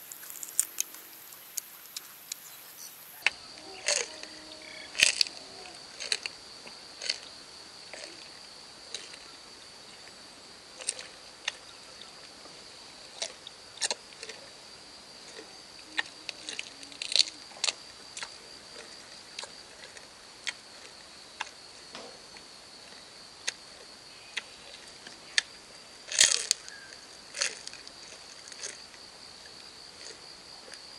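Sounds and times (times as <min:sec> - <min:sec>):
crunching and chewing: 0:00.0 - 0:09.4, 0:10.0 - 0:12.4, 0:13.0 - 0:30.9
high-pitched insect chorus: 0:00.0 - 0:30.9.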